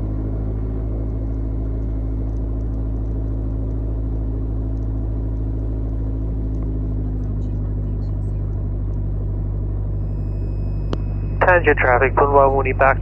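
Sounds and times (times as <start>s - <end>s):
aircraft engine idling: 0.0s - 13.0s.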